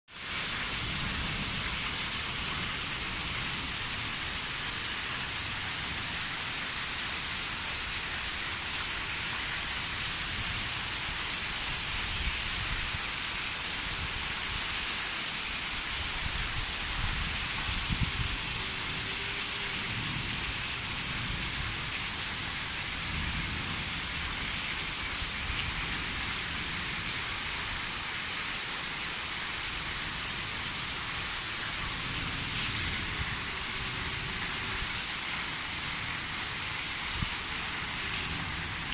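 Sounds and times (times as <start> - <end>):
steady rain falling: 0.1 - 38.9.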